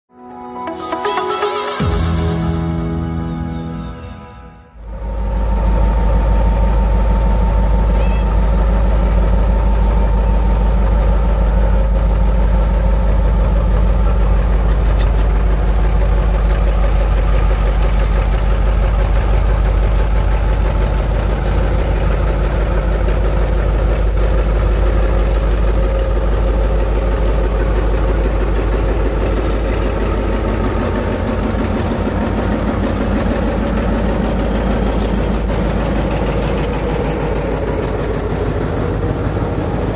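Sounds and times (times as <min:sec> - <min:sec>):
diesel locomotive engine drone: 0:00.1 - 0:39.9.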